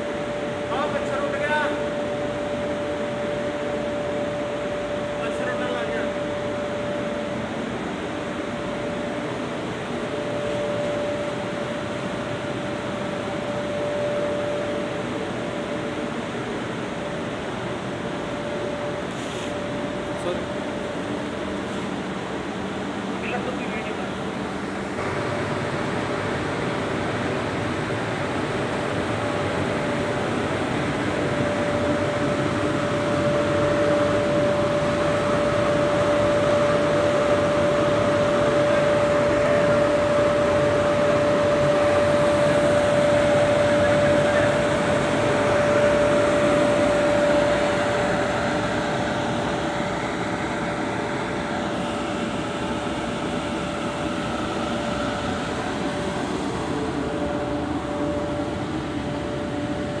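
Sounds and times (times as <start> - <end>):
dryer blower fan rushing: 0.0 - 60.0.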